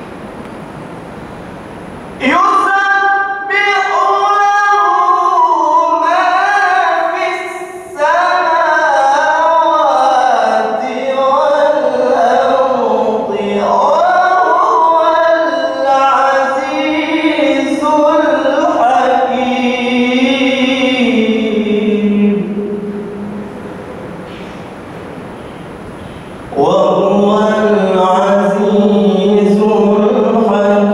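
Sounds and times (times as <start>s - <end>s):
man chanting recitation: 2.2s - 23.4s, 26.5s - 30.9s.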